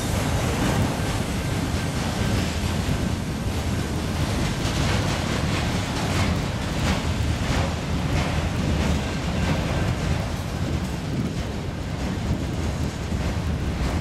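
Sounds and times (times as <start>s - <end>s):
freight train cars rumbling: 0.0s - 14.0s
wheels clicking over rail joints: 0.0s - 14.0s.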